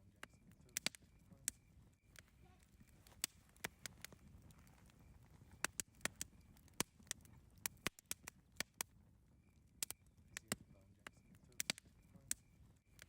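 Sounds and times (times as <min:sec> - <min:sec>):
campfire crackling and popping: 0:00.0 - 0:13.0
low rumble of flames: 0:00.0 - 0:13.0.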